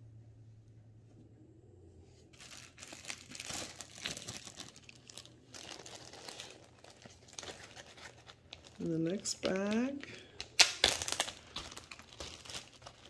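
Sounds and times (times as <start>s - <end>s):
plastic bag crinkling: 2.3s - 13.0s.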